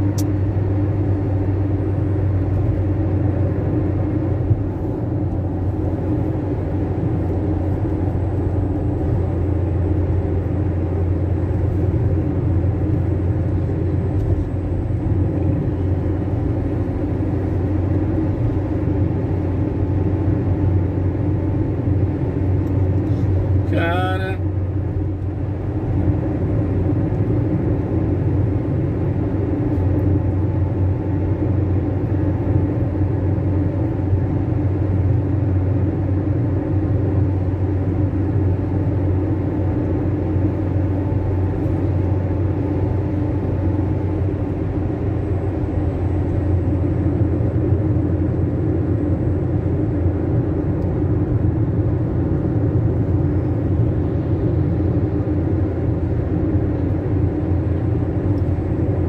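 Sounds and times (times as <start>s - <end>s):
road noise: 0.0s - 59.0s
van engine drone: 0.0s - 59.0s.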